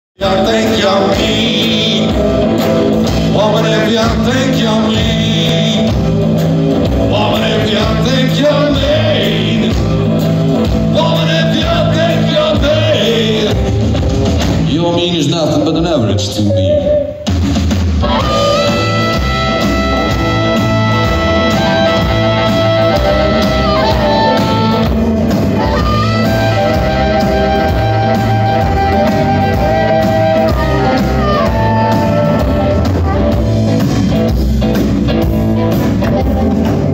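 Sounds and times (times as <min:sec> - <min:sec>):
electric guitar: 0:00.2 - 0:14.8, 0:16.3 - 0:36.9
drum kit steady beat: 0:00.2 - 0:15.4, 0:17.0 - 0:36.9
bending lead guitar line: 0:00.2 - 0:17.4, 0:18.0 - 0:36.9.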